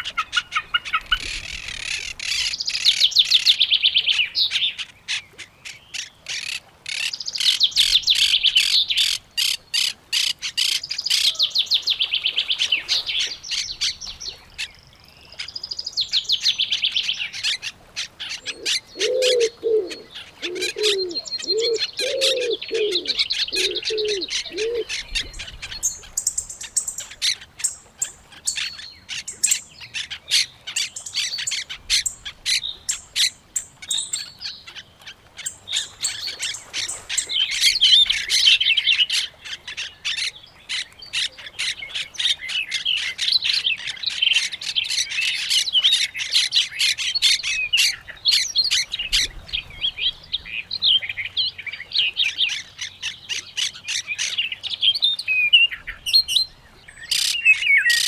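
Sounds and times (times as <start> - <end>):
many birds chirping: 0.0 - 58.0.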